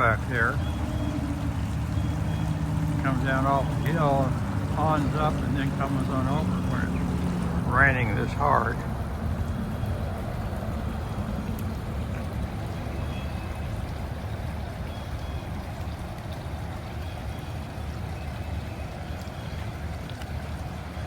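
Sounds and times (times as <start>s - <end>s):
heavy rain: 0.0s - 21.0s
small waterfall: 0.0s - 21.0s
storm runoff rushing down gully: 0.0s - 21.0s.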